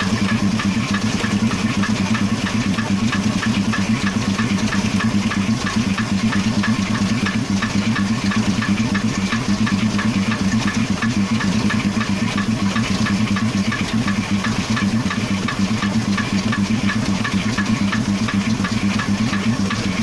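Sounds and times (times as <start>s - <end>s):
car engine idling: 0.0s - 20.0s
fast engine knock ticking: 0.0s - 20.0s.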